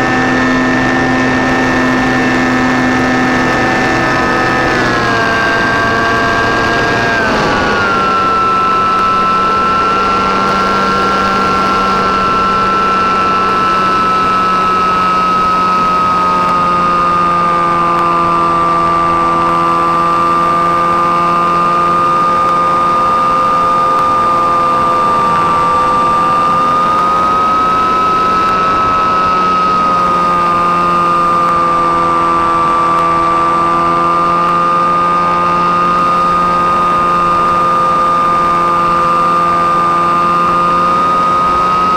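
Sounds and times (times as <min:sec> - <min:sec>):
model plane motor whine: 0:00.0 - 0:41.9.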